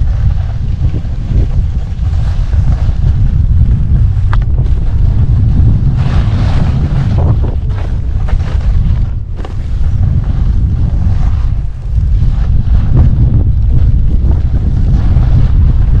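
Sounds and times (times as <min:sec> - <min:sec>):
skis hissing over snow: 0:00.0 - 0:16.0
wind rumbling on microphone: 0:00.0 - 0:16.0.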